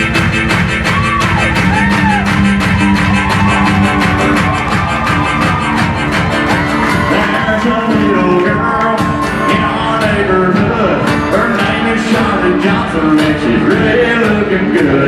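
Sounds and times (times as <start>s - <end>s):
fast drum beat: 0.0s - 15.0s
guitar: 0.0s - 15.0s.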